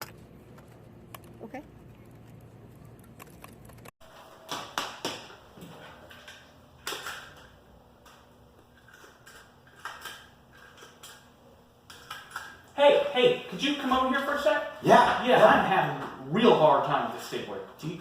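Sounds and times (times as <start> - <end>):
room hum: 0.0 - 18.0.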